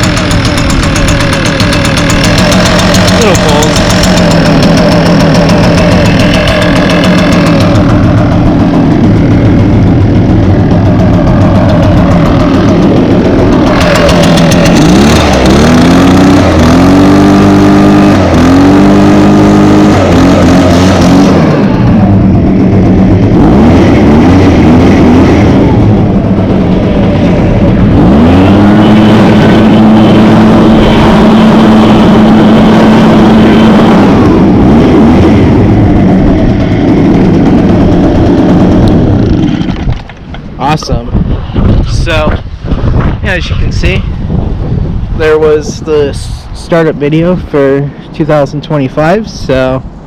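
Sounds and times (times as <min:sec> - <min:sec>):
leaf blower engine revving: 0:00.0 - 0:41.0.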